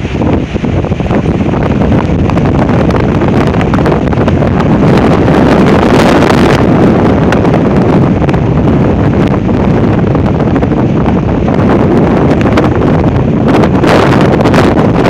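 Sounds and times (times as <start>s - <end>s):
strong gusting wind on microphone: 0.0s - 15.0s.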